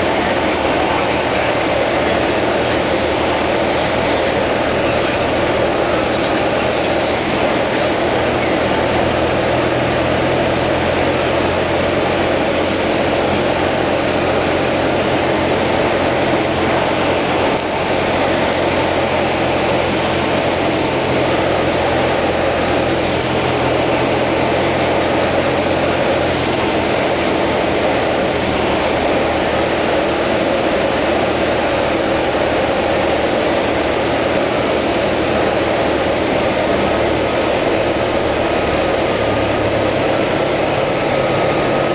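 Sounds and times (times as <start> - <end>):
airplane engine drone in cabin: 0.0 - 41.9.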